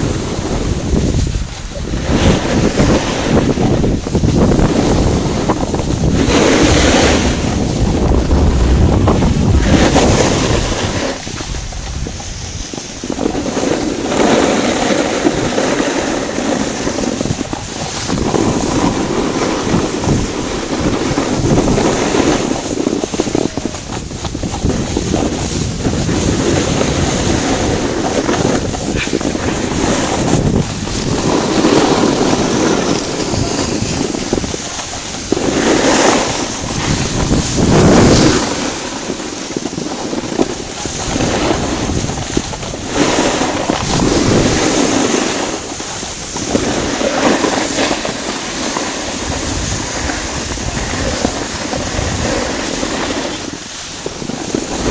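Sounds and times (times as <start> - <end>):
skis sliding over snow: 0.0 - 54.9
wind buffeting microphone: 0.0 - 54.9.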